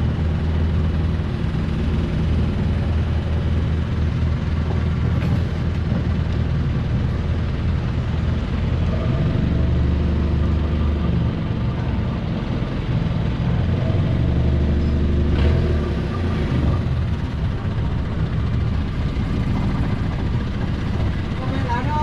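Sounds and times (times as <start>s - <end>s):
boat engine throbbing: 0.0s - 22.0s.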